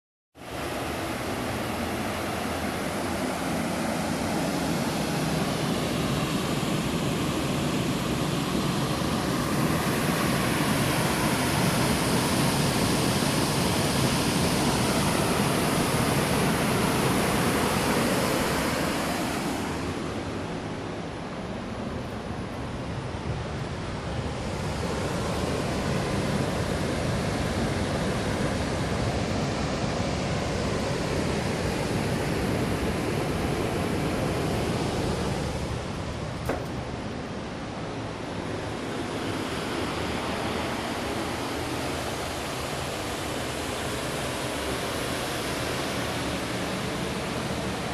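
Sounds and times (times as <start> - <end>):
loud steady rushing noise: 0.4 - 47.9.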